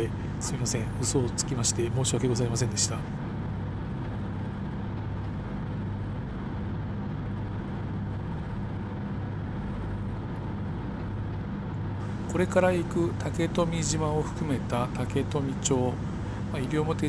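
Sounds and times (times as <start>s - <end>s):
ferry engines humming: 0.0s - 17.0s.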